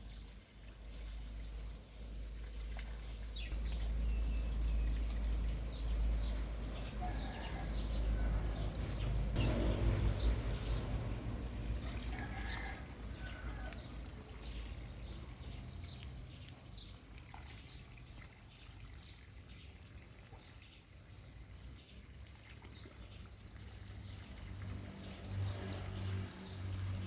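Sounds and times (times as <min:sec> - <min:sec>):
water trickling and dripping: 0:00.0 - 0:27.0.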